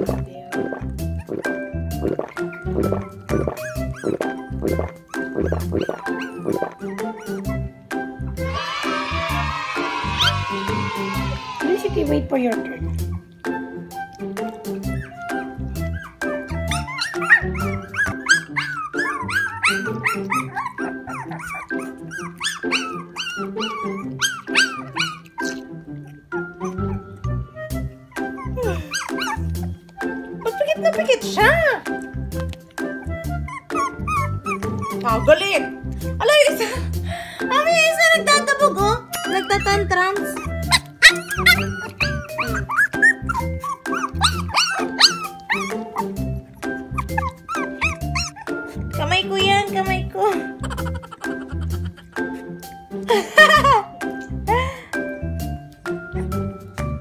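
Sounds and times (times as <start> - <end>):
background music low notes: 0.0 - 57.0
puppies whining and squeaking: 2.3 - 9.4, 12.6 - 36.1, 38.0 - 52.9, 55.9 - 57.0.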